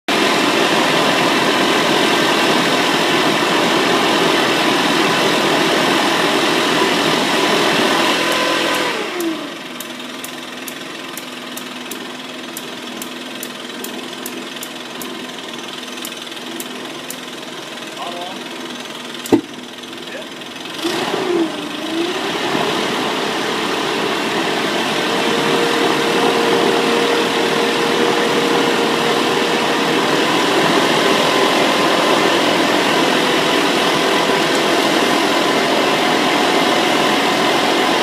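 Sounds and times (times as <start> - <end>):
small jet engine whining: 0.1 - 38.0.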